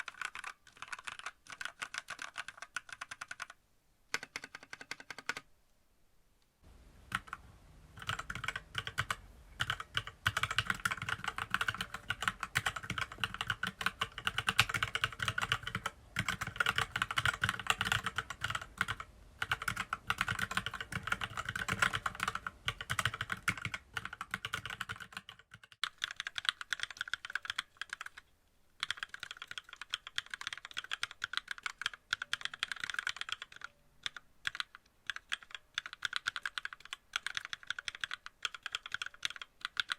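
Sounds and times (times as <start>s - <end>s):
mechanical keyboard typing: 0.0s - 5.5s, 7.1s - 7.4s, 8.0s - 28.2s, 28.8s - 39.9s.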